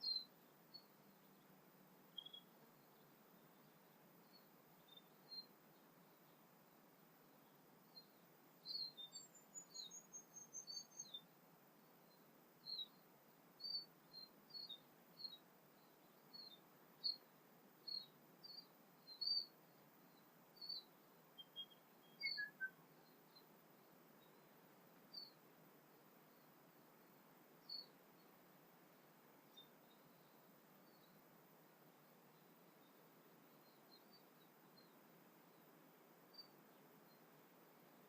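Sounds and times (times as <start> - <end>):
faint bird chirps: 0.0 - 38.0.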